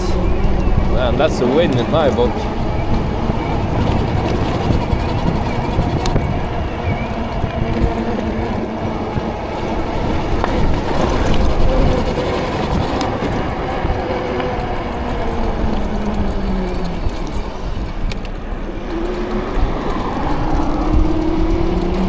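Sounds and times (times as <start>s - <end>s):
faint steady tones: 0.0s - 22.0s
road noise: 0.0s - 22.0s
wind rushing over microphone: 0.0s - 22.0s.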